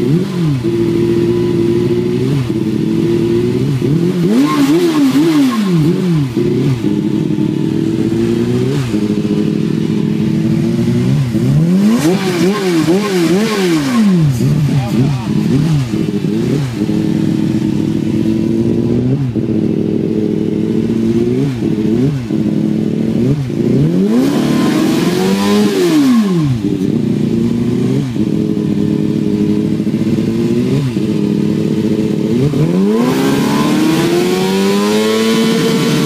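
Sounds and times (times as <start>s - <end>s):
engine revving at rev limiter: 0.0s - 36.0s.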